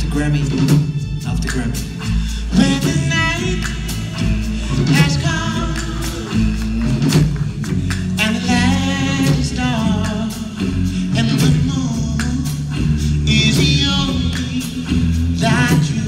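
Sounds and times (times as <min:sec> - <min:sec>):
backing band playing: 0:00.0 - 0:16.0
bass: 0:00.0 - 0:16.0
drum hits: 0:00.0 - 0:16.0
male vocal group singing: 0:01.4 - 0:16.0.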